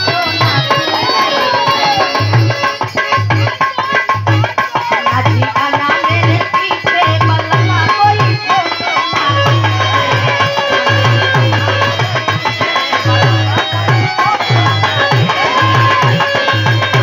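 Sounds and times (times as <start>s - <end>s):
barrel drum played by hand: 0.0s - 17.0s.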